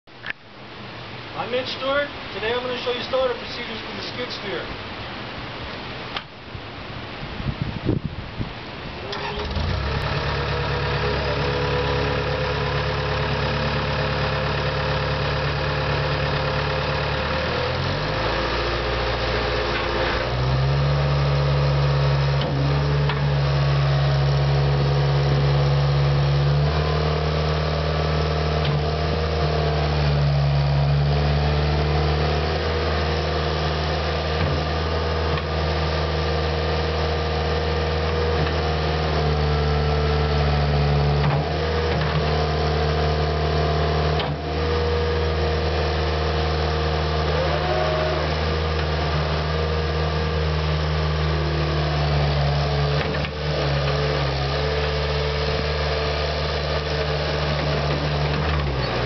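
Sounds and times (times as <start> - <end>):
diesel engine running: 8.9 - 59.0.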